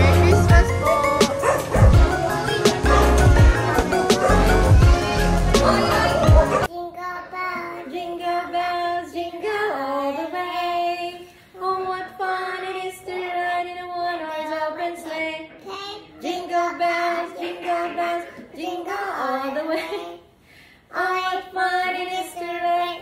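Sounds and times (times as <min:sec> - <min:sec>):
girl singing: 0:00.0 - 0:01.2, 0:04.7 - 0:23.0
woman singing: 0:00.0 - 0:01.4, 0:02.0 - 0:06.7, 0:07.7 - 0:15.5, 0:16.2 - 0:20.1, 0:20.9 - 0:23.0.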